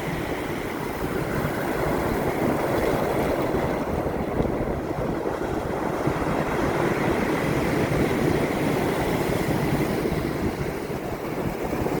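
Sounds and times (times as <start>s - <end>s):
surf waves breaking: 0.0s - 12.0s.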